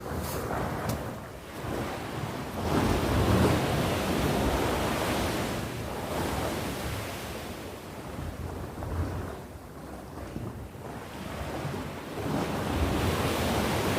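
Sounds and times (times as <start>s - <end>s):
sea waves breaking on shore: 0.0s - 13.9s
wind rumbling on microphone: 0.0s - 13.9s.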